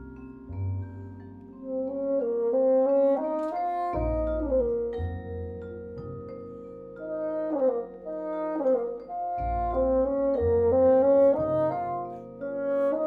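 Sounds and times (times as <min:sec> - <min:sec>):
low double bass notes: 0:00.0 - 0:13.0
vibraphone notes: 0:00.0 - 0:13.0
bassoon melody: 0:01.6 - 0:06.4, 0:07.0 - 0:13.0.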